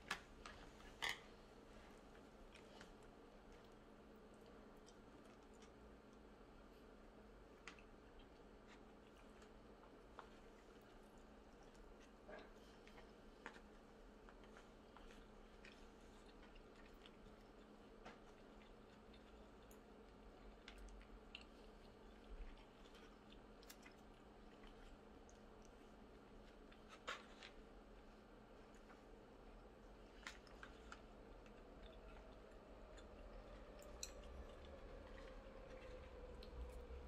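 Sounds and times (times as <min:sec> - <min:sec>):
faint room hum: 0:00.0 - 0:37.0
soft chewing: 0:00.0 - 0:37.0.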